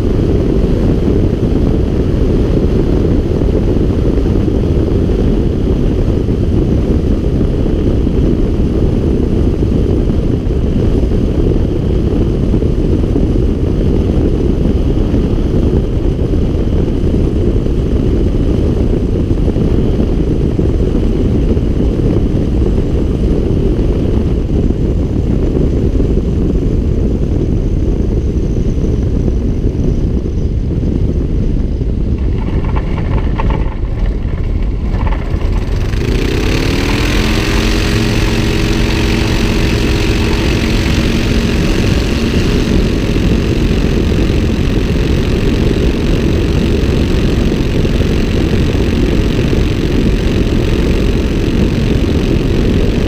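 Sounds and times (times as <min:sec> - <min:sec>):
light aircraft engine: 0:00.0 - 0:53.0
wind rush: 0:00.0 - 0:53.0.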